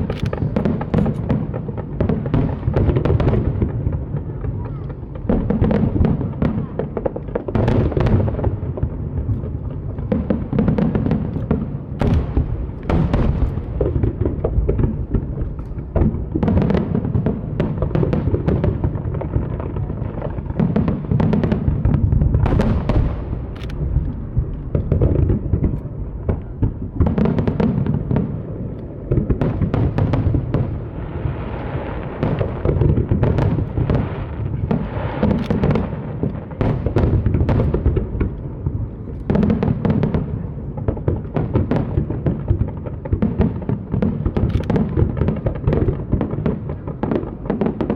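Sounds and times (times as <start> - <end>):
fireworks booming: 0.0 - 47.9.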